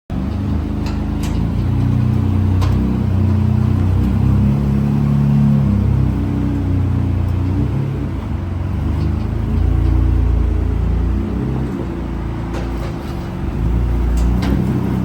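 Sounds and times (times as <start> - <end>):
engine running at low revs: 0.1 - 15.0.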